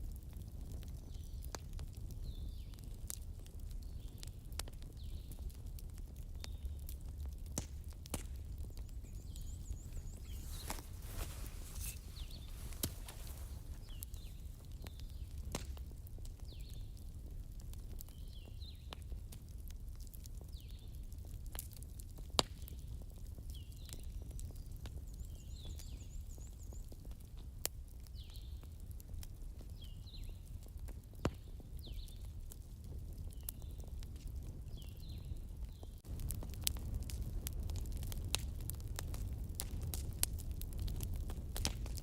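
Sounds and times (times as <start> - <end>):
campfire crackling: 0.0 - 42.0.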